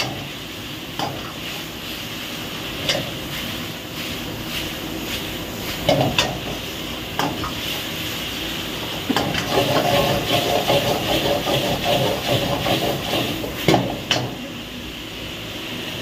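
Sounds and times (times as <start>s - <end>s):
gas burner hiss: 0.0s - 16.0s
meat sizzling in a wok: 0.0s - 16.0s.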